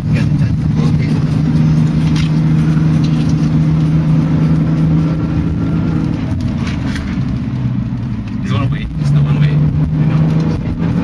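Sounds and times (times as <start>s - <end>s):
car engine at high revs: 0.0s - 11.0s
road and tyre noise: 0.0s - 11.0s.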